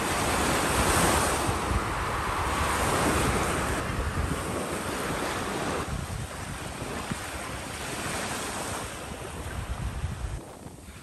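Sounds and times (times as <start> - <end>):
sea waves washing: 0.0 - 11.0
wind buffeting microphone: 0.0 - 11.0.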